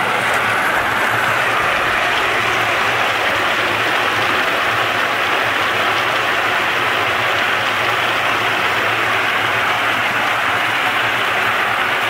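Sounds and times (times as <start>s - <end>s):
low motor hum: 0.0s - 12.0s
water running: 0.0s - 12.0s.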